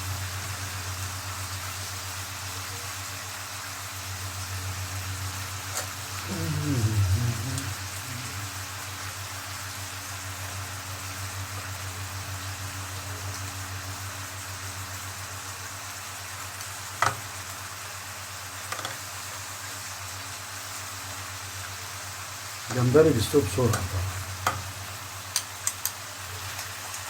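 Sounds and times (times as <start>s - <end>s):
seafood sizzling in oil: 0.0s - 6.3s, 7.8s - 27.0s.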